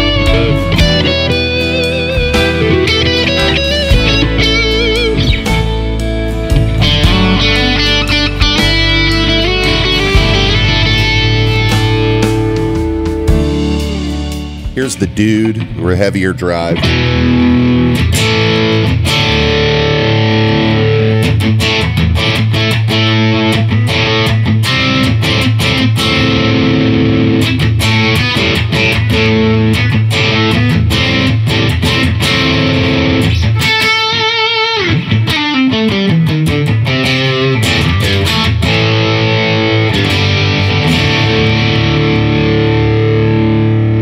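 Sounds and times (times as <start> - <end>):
distorted electric guitar: 0.0 - 44.0.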